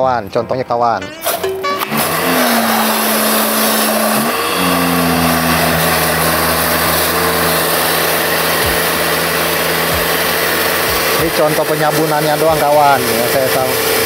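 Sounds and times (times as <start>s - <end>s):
pressure washer motor hum: 1.2s - 14.0s.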